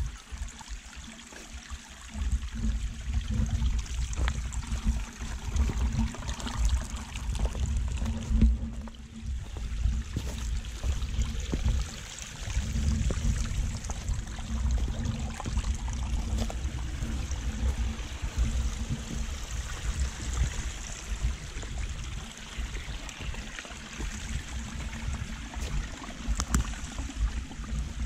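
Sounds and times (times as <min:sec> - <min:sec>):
stream trickling over rocks: 0:00.0 - 0:28.0
low microphone rumble: 0:02.1 - 0:28.0.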